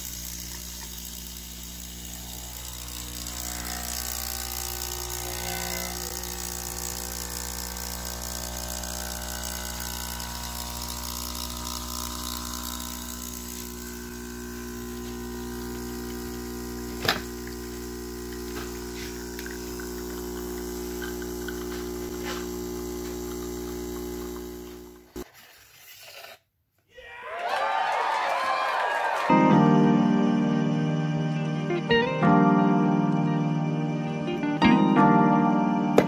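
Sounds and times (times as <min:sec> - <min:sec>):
pump buzzing: 0:00.0 - 0:25.3, 0:30.7 - 0:36.0.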